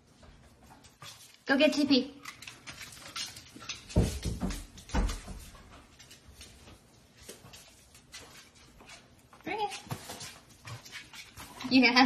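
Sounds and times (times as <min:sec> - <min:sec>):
footsteps on tiled floor: 0:00.0 - 0:01.5, 0:02.4 - 0:11.8.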